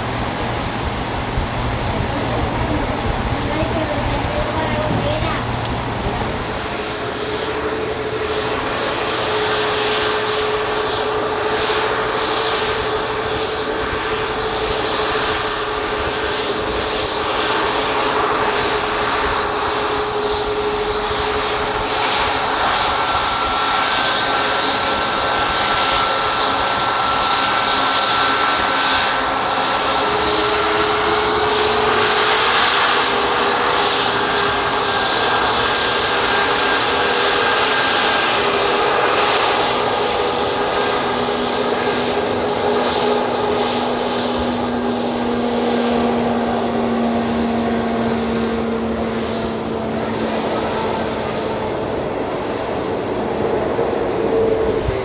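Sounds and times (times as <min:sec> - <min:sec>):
jet airliner engines running: 0:00.0 - 0:55.0.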